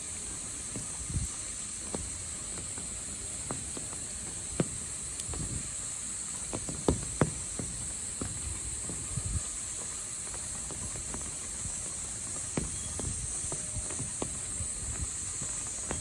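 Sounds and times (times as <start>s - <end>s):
insects buzzing: 0.0s - 16.0s
soft thuds: 0.4s - 16.0s.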